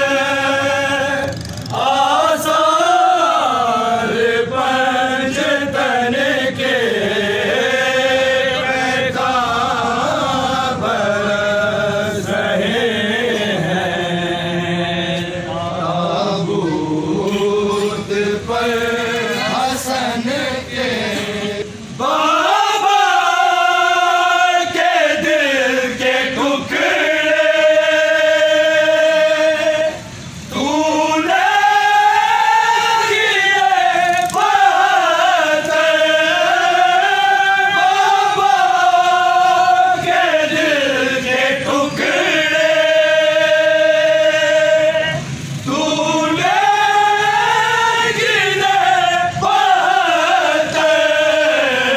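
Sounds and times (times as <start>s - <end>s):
crowd of men chanting: 0.0s - 51.9s.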